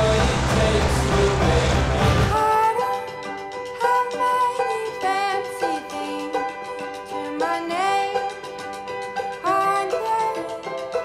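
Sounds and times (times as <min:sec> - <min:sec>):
background music with sliding notes: 0:00.0 - 0:11.0.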